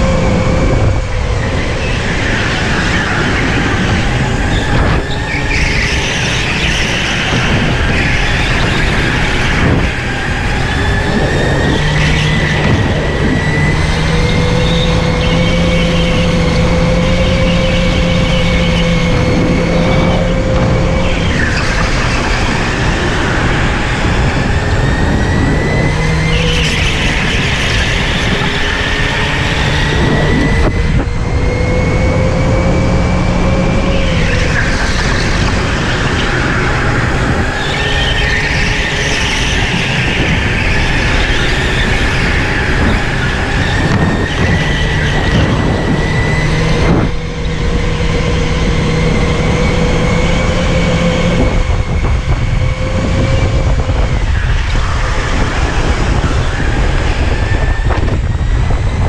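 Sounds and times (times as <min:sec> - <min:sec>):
electric motor whine: 0:00.0 - 0:59.0
rumble from chassis and track: 0:00.0 - 0:59.0
tyre squeal: 0:01.3 - 0:59.0.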